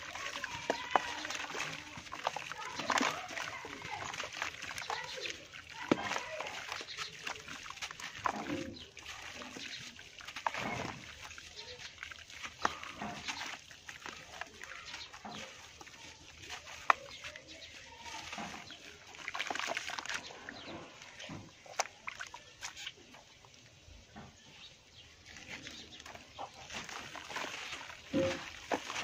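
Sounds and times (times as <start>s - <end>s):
dry clay crumbling: 0.0s - 23.2s, 25.0s - 29.0s
small water splashes: 0.0s - 29.0s
wet mud squishing: 0.0s - 29.0s.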